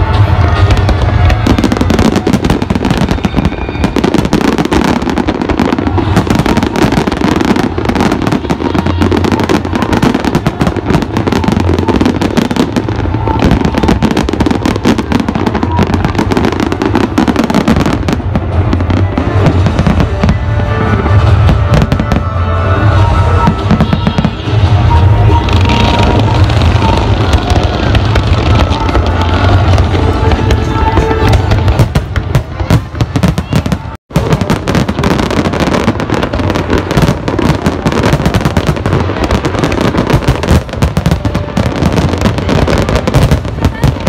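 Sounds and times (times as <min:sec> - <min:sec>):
fireworks bangs and crackles: 0:00.0 - 0:44.0
heavy low rumble: 0:00.0 - 0:44.0.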